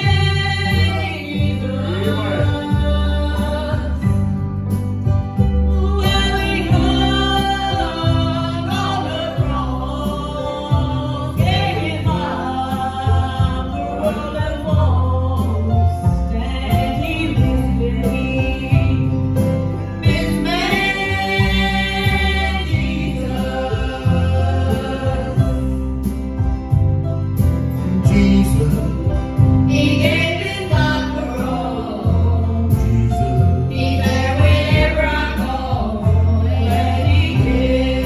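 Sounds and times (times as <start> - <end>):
gospel singing with accompaniment: 0.0 - 38.0.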